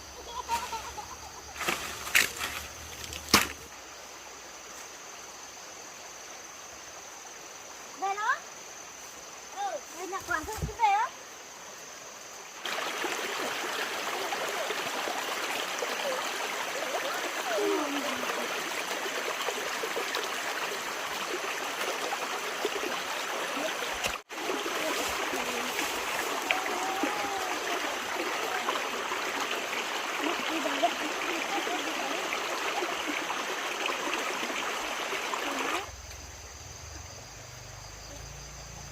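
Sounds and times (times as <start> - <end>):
stream water rushing: 0.0 - 5.5, 6.2 - 35.9.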